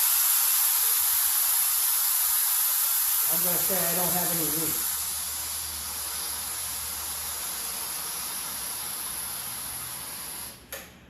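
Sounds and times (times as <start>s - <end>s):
high-pitched hiss: 0.0s - 10.6s.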